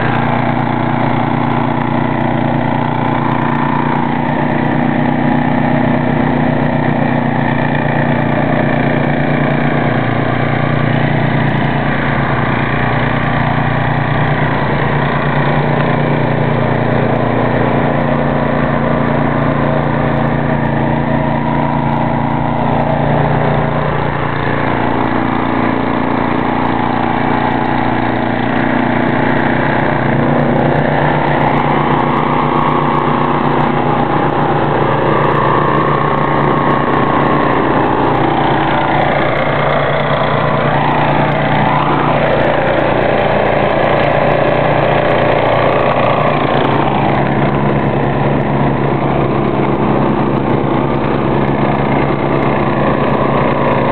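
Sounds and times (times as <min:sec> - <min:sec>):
snow thrower engine running: 0:00.0 - 0:53.9.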